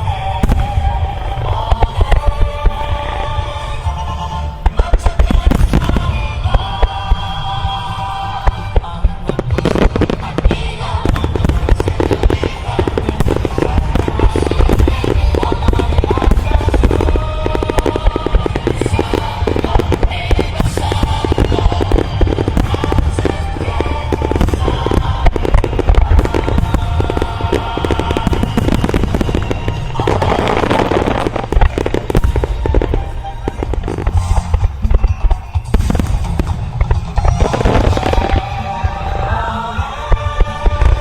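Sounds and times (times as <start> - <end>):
fireworks bursts and booms: 0.0 - 41.0
music playing: 0.0 - 41.0.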